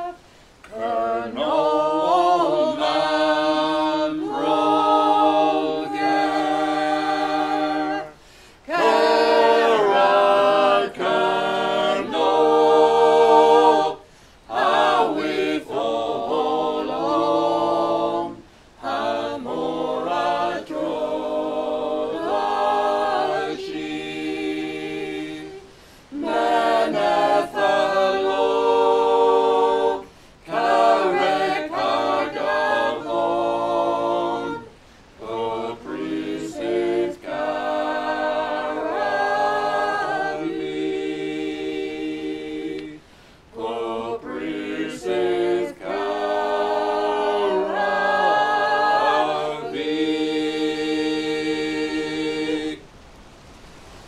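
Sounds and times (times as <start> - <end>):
choir singing in harmony: 0.0 - 53.0.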